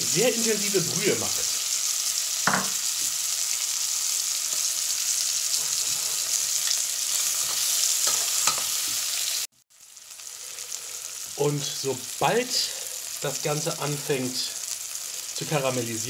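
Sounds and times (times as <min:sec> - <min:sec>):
meat and onions sizzling in fat: 0:00.0 - 0:16.0.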